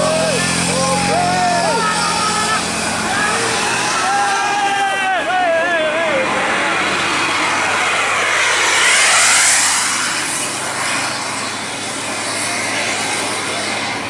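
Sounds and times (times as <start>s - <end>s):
bus engine driving past: 0.0s - 14.0s.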